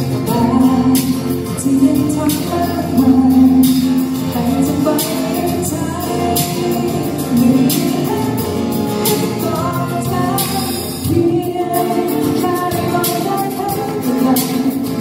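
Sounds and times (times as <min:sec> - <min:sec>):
acoustic guitar strumming: 0:00.0 - 0:15.0
woman singing slow song: 0:00.0 - 0:15.0.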